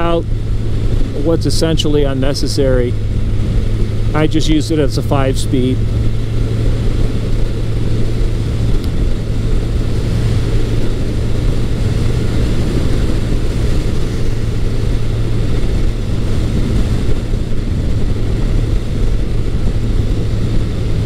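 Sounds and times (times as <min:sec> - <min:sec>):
motorcycle engine cruising: 0:00.0 - 0:21.0
wind noise: 0:00.0 - 0:21.0.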